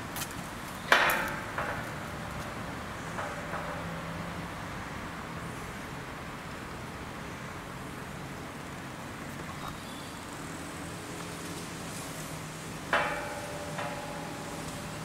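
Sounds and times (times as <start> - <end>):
low engine hum of traffic: 0.0 - 15.0.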